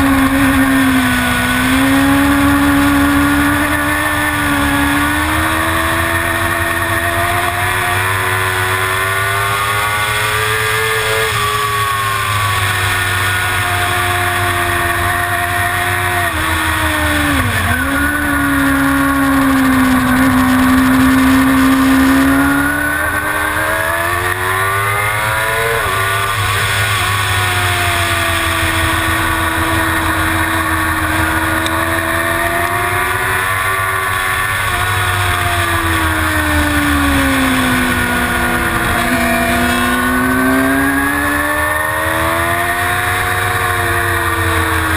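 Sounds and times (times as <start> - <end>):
racing motorcycle engine revving: 0.0 - 44.9.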